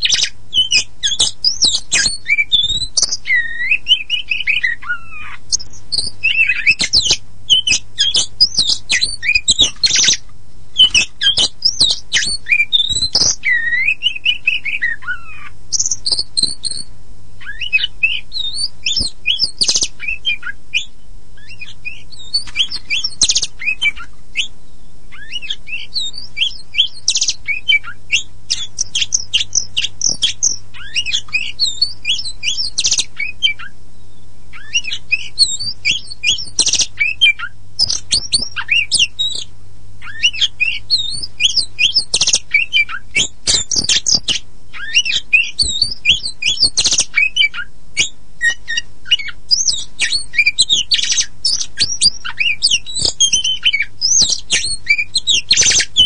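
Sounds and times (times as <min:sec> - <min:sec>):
songbird singing varied whistles: 0:00.0 - 0:10.2, 0:10.8 - 0:56.0
faint low hum: 0:00.0 - 0:56.0.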